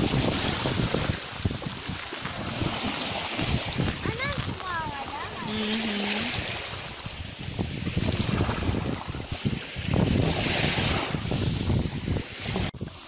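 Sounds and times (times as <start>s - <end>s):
waves washing over gravel: 0.0s - 13.0s
wind buffeting microphone: 0.0s - 13.0s.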